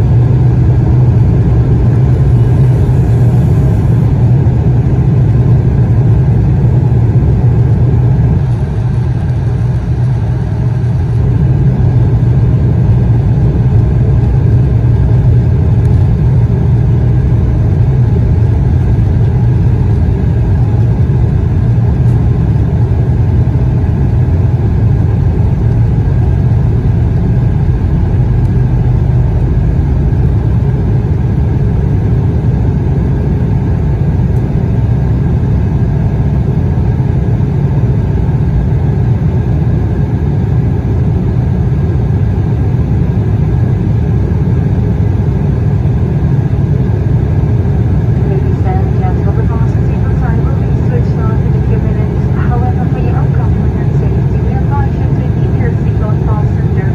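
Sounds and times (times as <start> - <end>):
jet engines deep rumble: 0.0 - 56.9.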